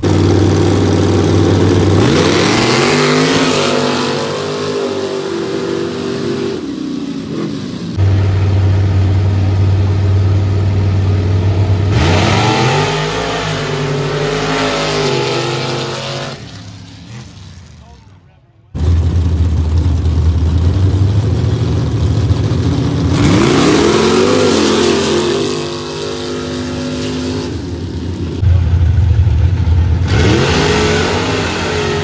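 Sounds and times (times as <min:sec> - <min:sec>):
pickup truck engines revving: 0:00.0 - 0:18.2, 0:18.8 - 0:32.0.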